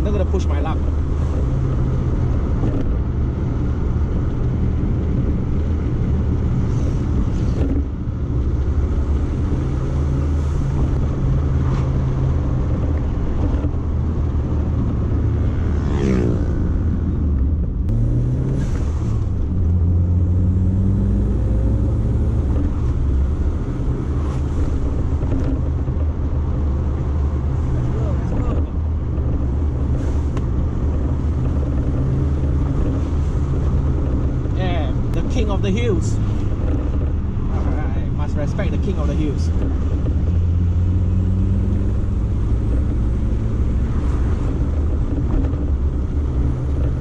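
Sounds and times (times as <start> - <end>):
car engine droning at cruise: 0.0 - 47.0
road and tyre noise: 0.0 - 47.0.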